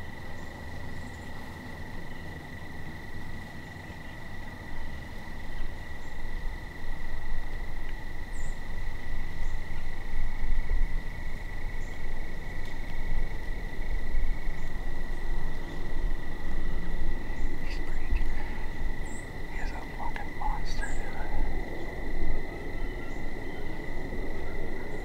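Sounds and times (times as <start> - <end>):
insects trilling: 0.0 - 25.0
low microphone rumble: 0.0 - 25.0.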